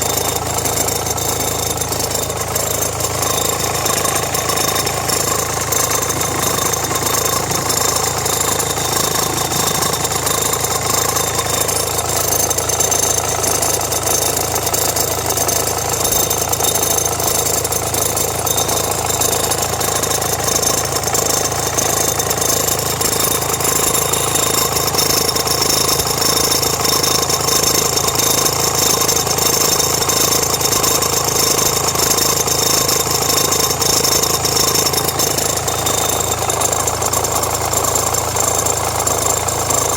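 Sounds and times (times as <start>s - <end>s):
diesel engine idling with rattle: 0.0s - 39.9s.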